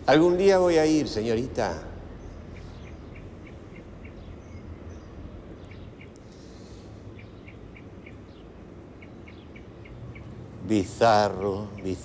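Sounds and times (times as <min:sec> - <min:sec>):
low outdoor rumble: 0:00.0 - 0:12.0
small bird chirping: 0:02.2 - 0:12.0.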